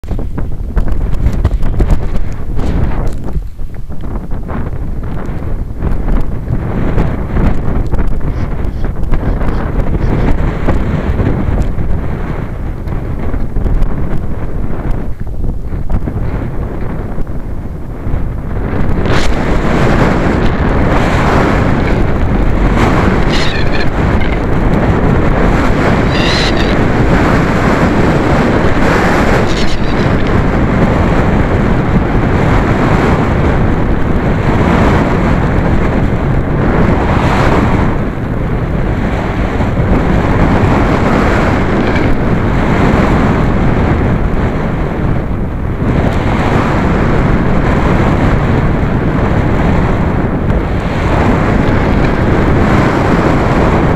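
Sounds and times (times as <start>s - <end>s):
wind rushing past microphone: 0.0s - 53.9s.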